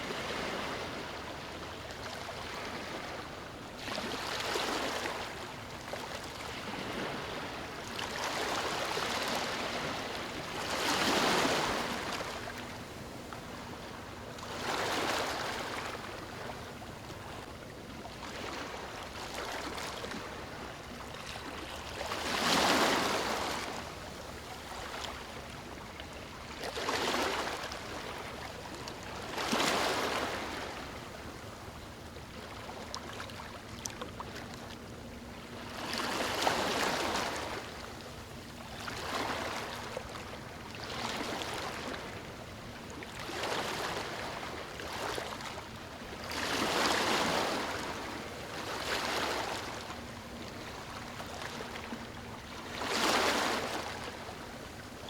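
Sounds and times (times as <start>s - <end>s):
small waves breaking on beach: 0.0s - 17.5s, 18.1s - 31.5s, 35.4s - 55.0s.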